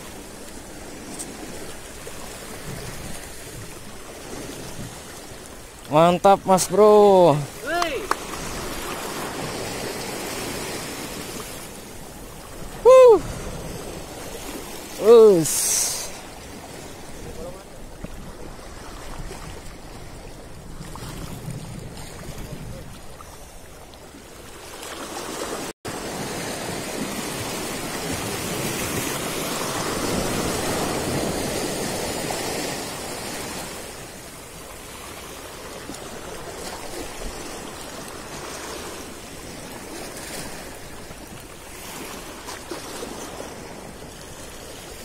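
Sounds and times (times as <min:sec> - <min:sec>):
waves washing against jetty: 0:00.0 - 0:45.0.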